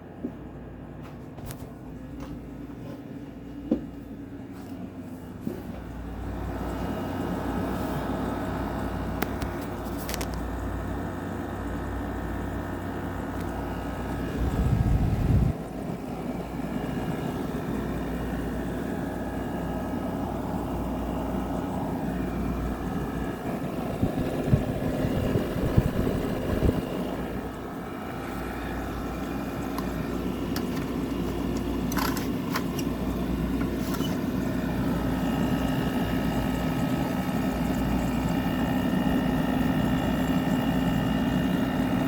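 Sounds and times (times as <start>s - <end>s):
air conditioner compressor hum: 0.0s - 42.0s
fan air rushing: 0.0s - 42.0s.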